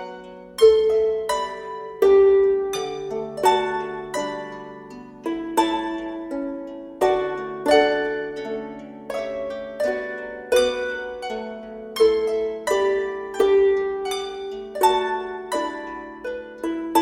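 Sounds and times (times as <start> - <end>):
harp plucked notes: 0.0 - 17.0.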